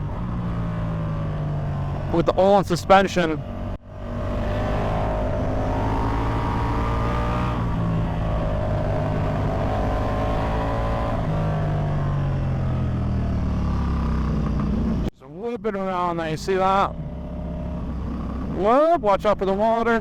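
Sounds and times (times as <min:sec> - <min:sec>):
motorcycle engine running: 0:00.0 - 0:15.1, 0:16.5 - 0:20.0.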